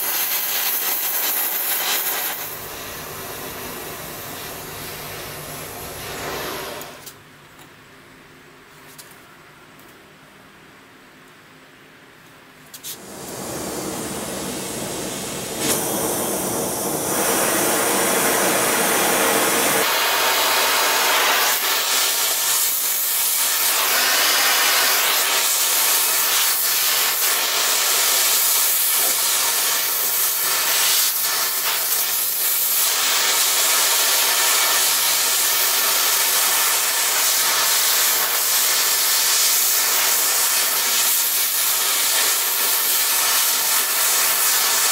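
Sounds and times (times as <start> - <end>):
welding arc hissing: 0.0 - 7.1, 12.8 - 44.9.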